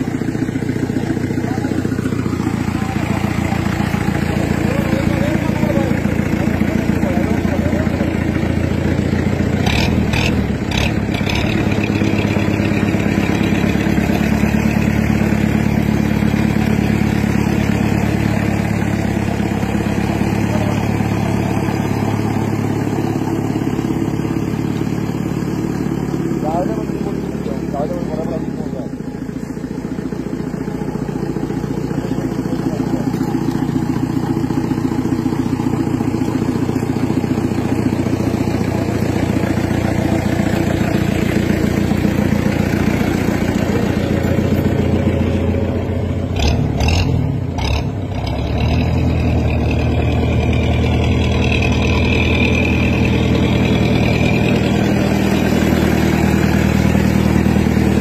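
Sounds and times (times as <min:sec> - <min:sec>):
engine running at low speed: 0:00.0 - 0:58.0.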